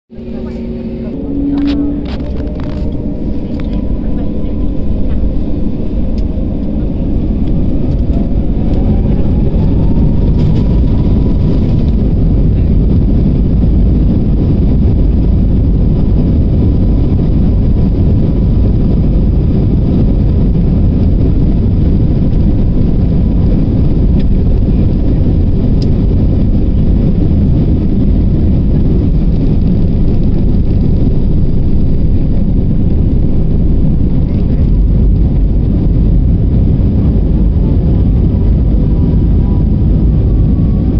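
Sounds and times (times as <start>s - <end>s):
jet engine roar: 0.1s - 40.9s
jet engines whining: 0.1s - 40.9s.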